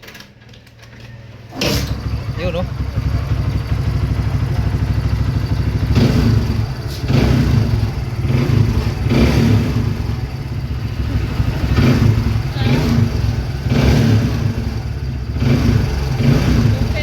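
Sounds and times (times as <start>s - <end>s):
motorcycle engine revving: 1.4s - 17.0s.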